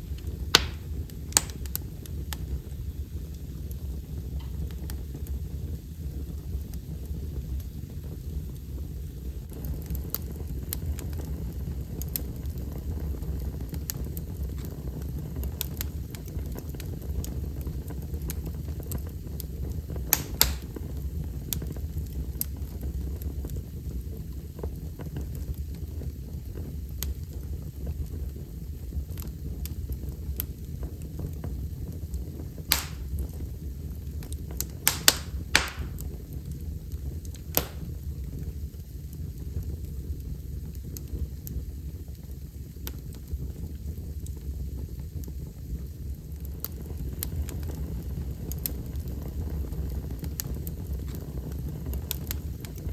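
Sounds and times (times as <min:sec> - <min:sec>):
fire crackling and popping: 0:00.0 - 0:52.9
low rumble of flames: 0:00.0 - 0:52.9.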